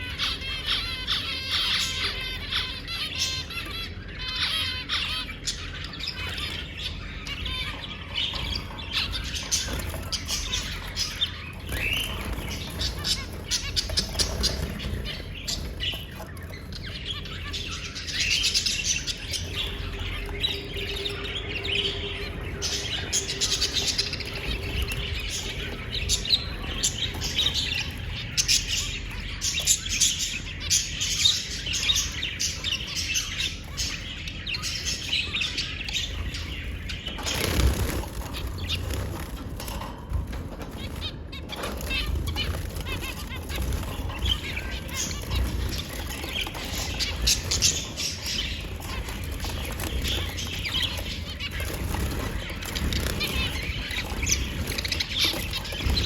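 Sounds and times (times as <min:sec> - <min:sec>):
parrots chirping and squawking: 0:00.0 - 0:56.0.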